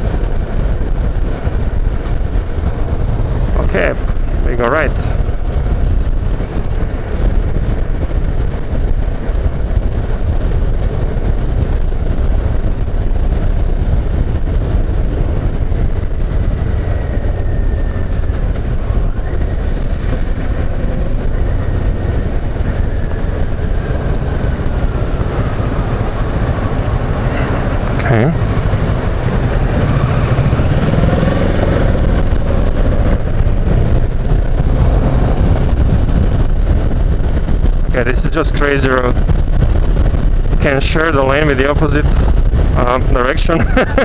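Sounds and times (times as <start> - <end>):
motorcycle engine running: 0.0 - 44.0
wind rush: 0.0 - 44.0.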